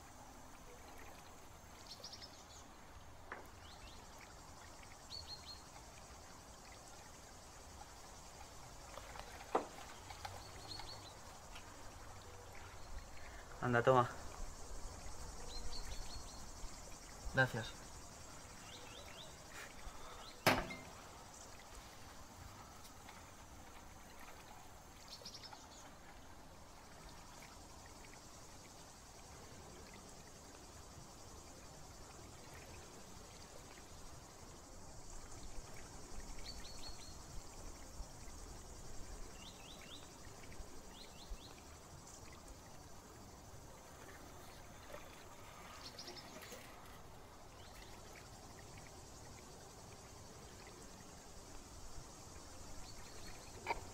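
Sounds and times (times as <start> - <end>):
low hiss: 0.0 - 53.9.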